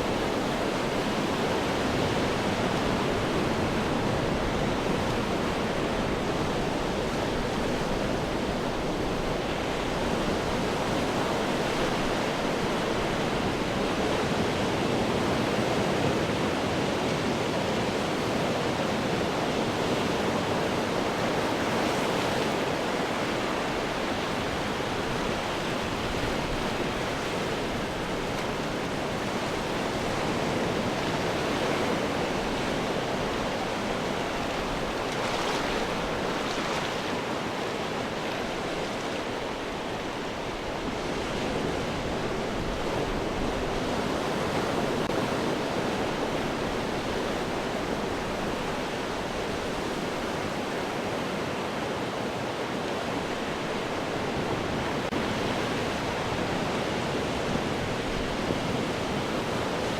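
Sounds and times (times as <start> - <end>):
ocean surf breaking over rocks: 0.0 - 59.9.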